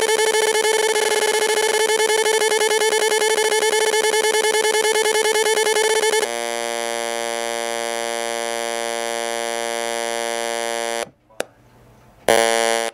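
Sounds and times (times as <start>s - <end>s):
speaker buzzing with electronic tones: 0.0s - 11.2s, 12.2s - 12.9s.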